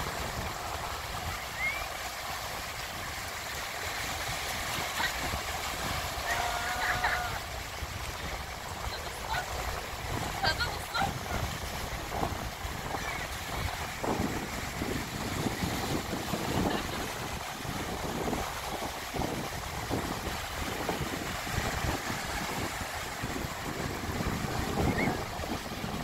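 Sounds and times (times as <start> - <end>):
small waves breaking on sand: 0.0 - 26.0
wind buffeting the microphone: 0.0 - 26.0.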